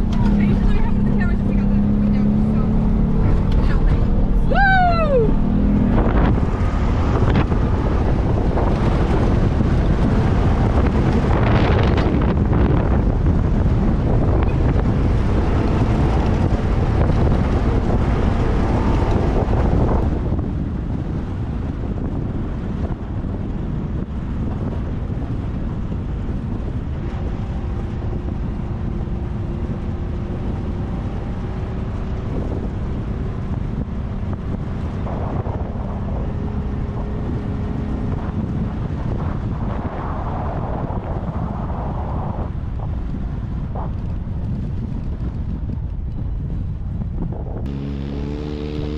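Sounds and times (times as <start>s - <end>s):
vehicle engine and road drone: 0.0s - 48.9s
wind buffeting microphone: 0.0s - 48.9s.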